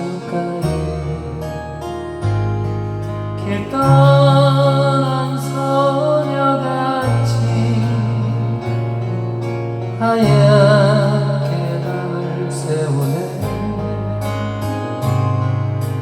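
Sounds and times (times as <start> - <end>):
melody line with vibrato: 0.0 - 16.0
sustained bass notes: 0.0 - 16.0.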